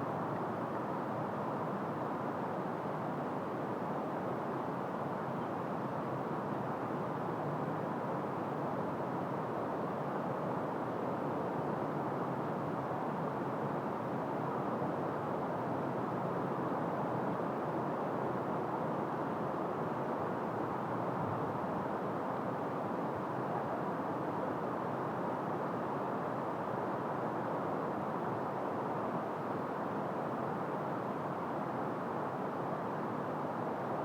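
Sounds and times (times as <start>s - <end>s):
wind blowing through trees: 0.0s - 34.0s.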